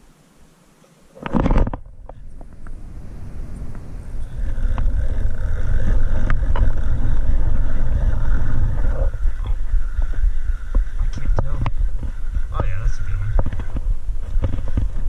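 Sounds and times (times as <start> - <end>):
wind buffeting microphone: 1.4 - 15.0.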